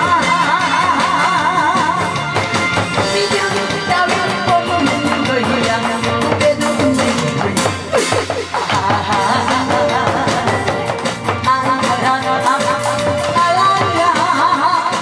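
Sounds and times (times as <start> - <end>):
woman singing into a microphone: 0.0 - 2.2, 3.0 - 15.0
loud amplified music with drum beat: 0.0 - 15.0.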